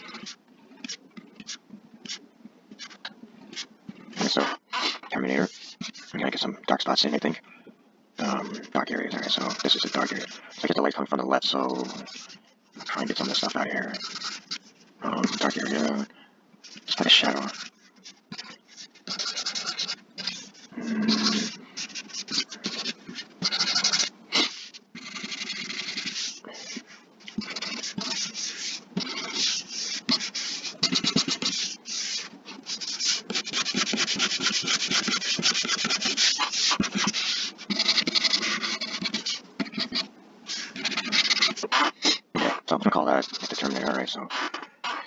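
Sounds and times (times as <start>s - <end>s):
stylus scratching on tablet: 0.0s - 7.4s, 8.2s - 45.0s.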